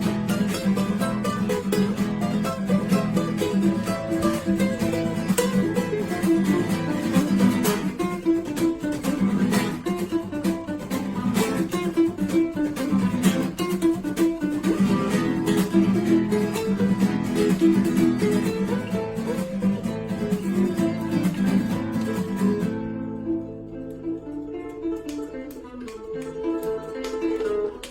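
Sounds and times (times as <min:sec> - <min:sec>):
flamenco acoustic guitar: 0:00.0 - 0:27.9.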